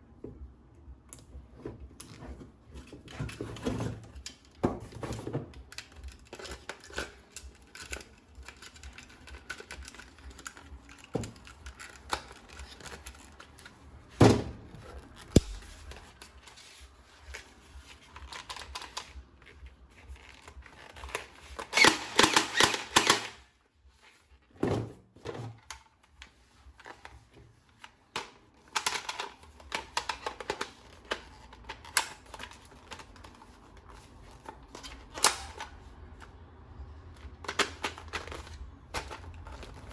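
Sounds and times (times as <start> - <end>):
plastic parts clicking and knocking: 1.1 - 23.4, 24.0 - 36.3, 37.0 - 39.9.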